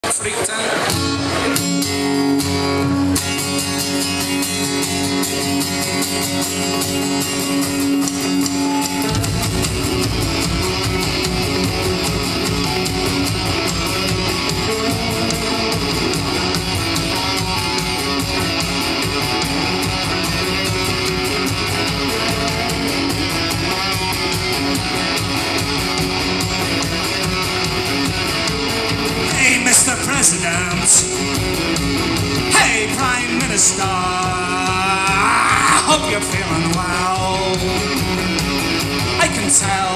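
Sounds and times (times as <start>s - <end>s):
guitar: 0.0s - 39.9s
live rock band playing: 0.0s - 39.9s.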